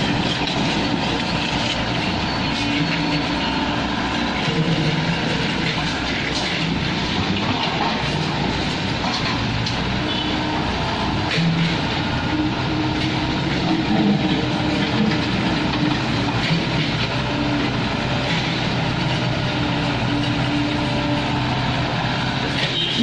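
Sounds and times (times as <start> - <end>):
diesel construction machinery running: 0.0 - 23.0.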